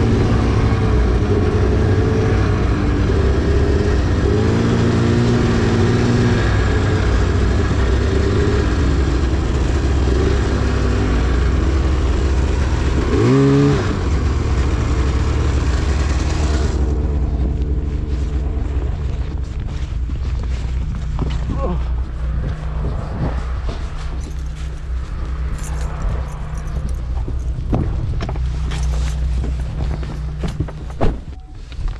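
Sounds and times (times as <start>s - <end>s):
two-stroke engine running: 0.0s - 31.4s.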